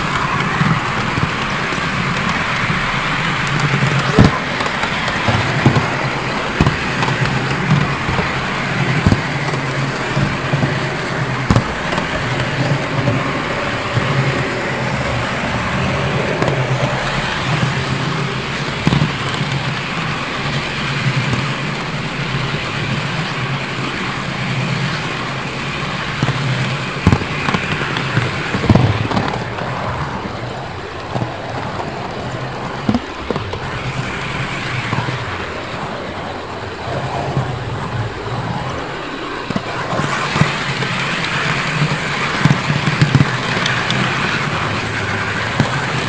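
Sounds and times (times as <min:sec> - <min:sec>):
model trains rolling rumble: 0:00.0 - 0:46.0.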